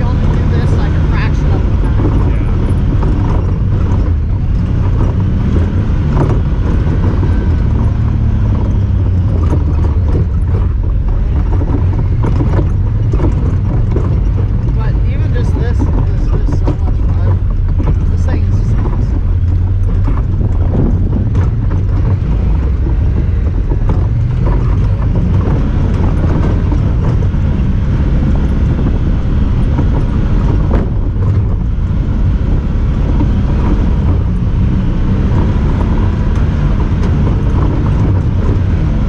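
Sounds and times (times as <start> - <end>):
off-road vehicle engine driving: 0.0 - 39.0.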